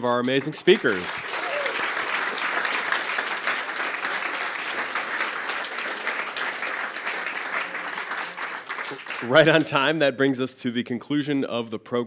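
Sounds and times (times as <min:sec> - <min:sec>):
audience applauding: 0:00.1 - 0:10.0.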